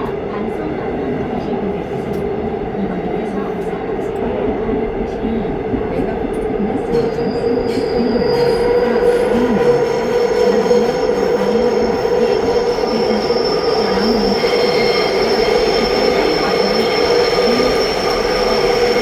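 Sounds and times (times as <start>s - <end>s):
metro train rumble: 0.0s - 19.0s.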